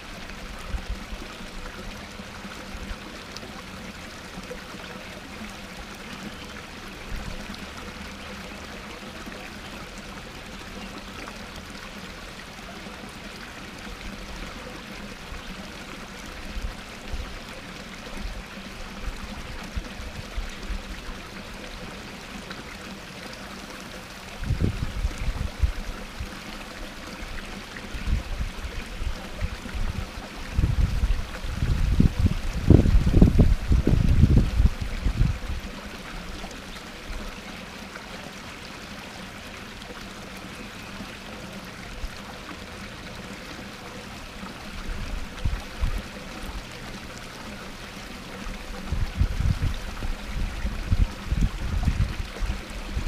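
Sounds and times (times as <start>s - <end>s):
waterfall splashing over rocks: 0.0s - 53.0s.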